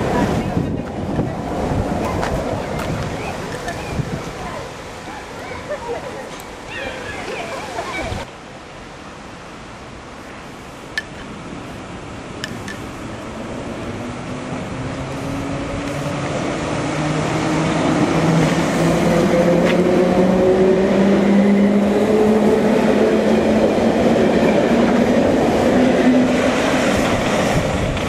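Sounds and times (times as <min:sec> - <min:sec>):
wheel and rail rumble: 0:00.0 - 0:08.3, 0:10.0 - 0:28.0.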